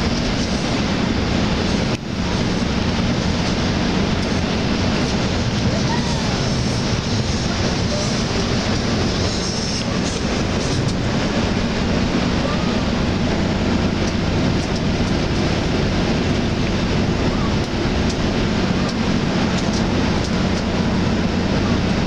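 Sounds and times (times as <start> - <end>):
bus engine hum: 0.0 - 22.0
road and wind noise: 0.0 - 22.0.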